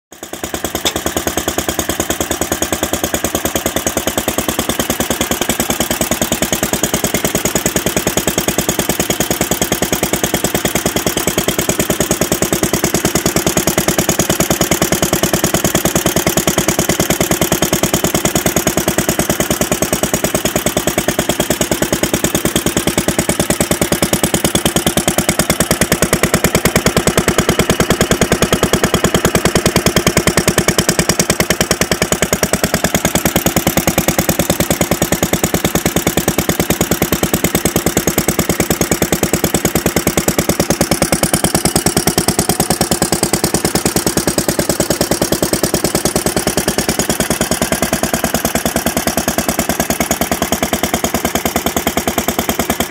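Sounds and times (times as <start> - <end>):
single-cylinder engine running: 0.1 - 52.9.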